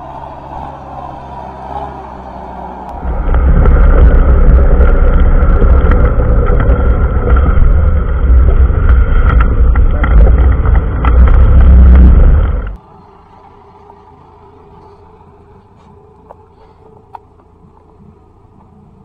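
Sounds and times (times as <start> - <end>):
tractor diesel engine rumble: 0.0 - 19.0.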